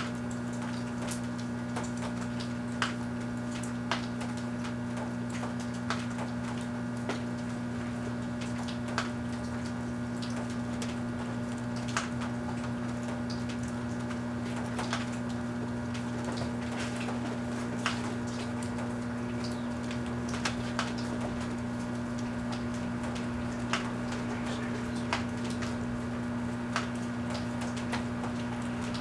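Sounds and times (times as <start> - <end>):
microwave oven humming: 0.0 - 29.0
sharp crackles and pops: 0.0 - 29.0.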